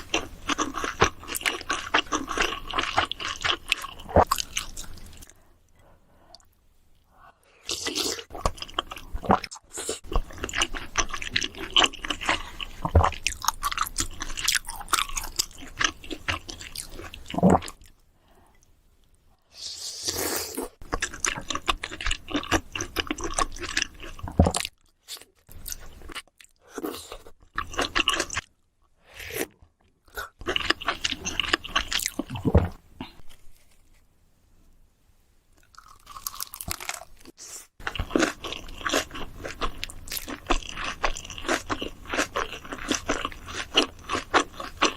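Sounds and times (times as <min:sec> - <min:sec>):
person chewing crunchy food: 0:00.0 - 0:05.4, 0:07.6 - 0:17.9, 0:20.5 - 0:28.5, 0:29.3 - 0:33.8, 0:35.6 - 0:44.9.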